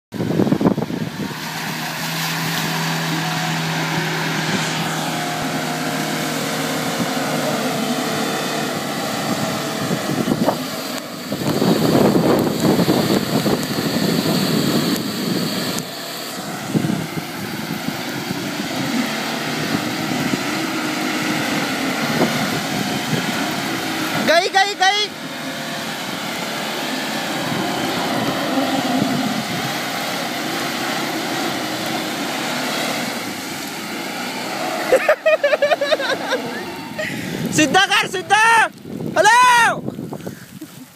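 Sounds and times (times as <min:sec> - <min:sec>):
suv engine running: 0:00.1 - 0:40.9.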